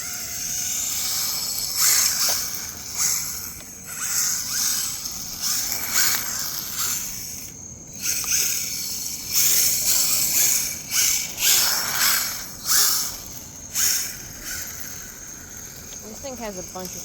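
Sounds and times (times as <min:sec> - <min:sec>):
rc car motor whine: 0:00.0 - 0:17.0.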